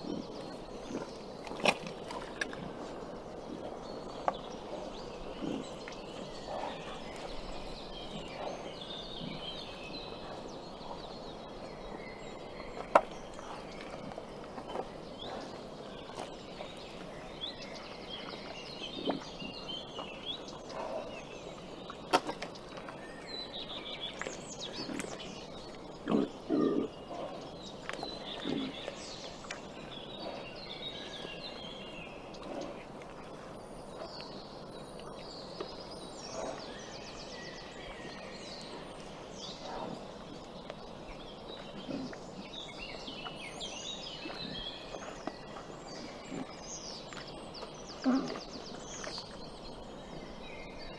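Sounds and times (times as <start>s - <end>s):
birds chirping: 0.0s - 50.9s
boar chewing: 0.0s - 50.9s.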